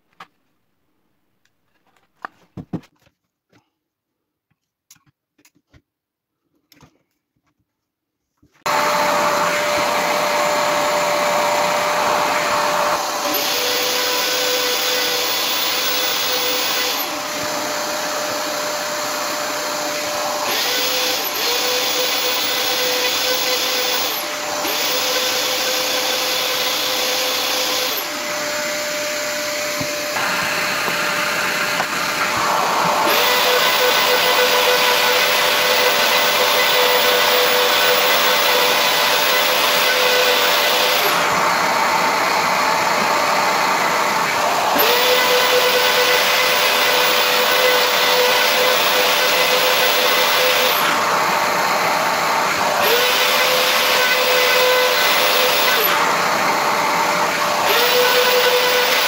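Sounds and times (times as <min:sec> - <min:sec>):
electric router whine: 0:08.6 - 0:59.0
shop vacuum humming: 0:08.6 - 0:59.0.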